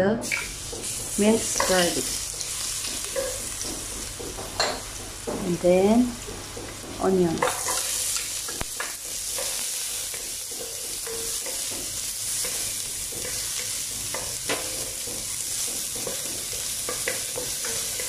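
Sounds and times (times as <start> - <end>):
garlic sizzling in oil: 0.2 - 18.0
spatula scraping and tapping pan: 0.2 - 18.0.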